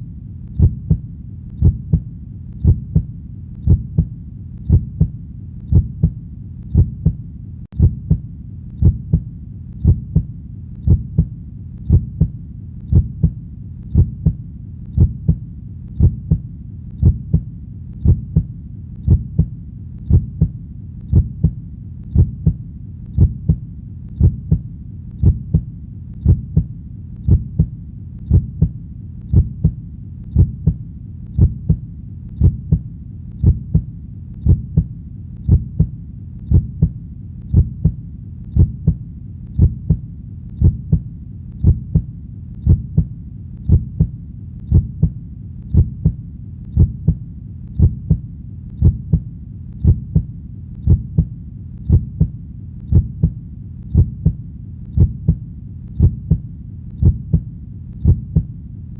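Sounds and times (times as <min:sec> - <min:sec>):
heartbeat: 0:00.0 - 0:58.6
faint steady rumble: 0:00.0 - 0:58.9.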